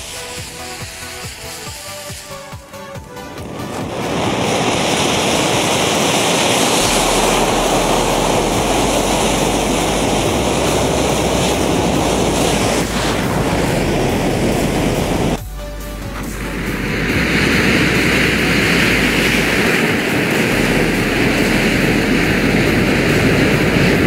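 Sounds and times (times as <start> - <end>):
loud hissing rush of burning matches: 0.0 - 15.4, 16.1 - 24.0.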